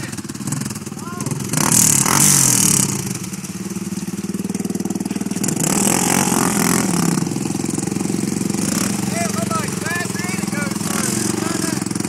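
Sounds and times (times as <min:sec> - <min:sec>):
atv engines in mud: 0:00.0 - 0:12.0.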